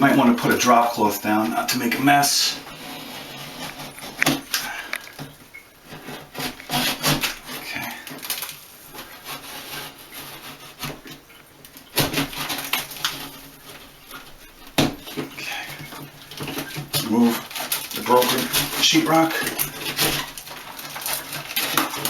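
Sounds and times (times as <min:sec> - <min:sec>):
knife scraping sheetrock: 0:00.0 - 0:22.0.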